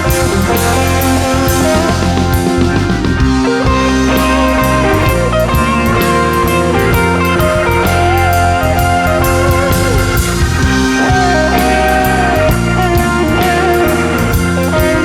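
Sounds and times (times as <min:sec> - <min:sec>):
bass guitar: 0:00.0 - 0:15.0
drum kit with cymbals: 0:00.0 - 0:15.0
lead guitar bending notes: 0:00.0 - 0:15.0.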